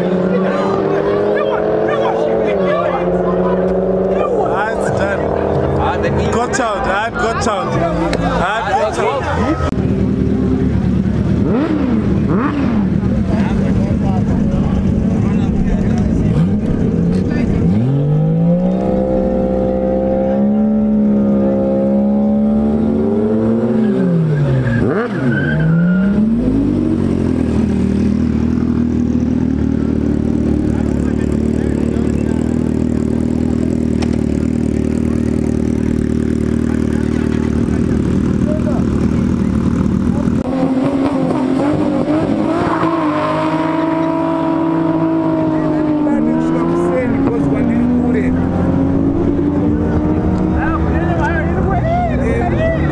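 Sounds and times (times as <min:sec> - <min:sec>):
drag racing engines revving: 0:00.0 - 0:52.9.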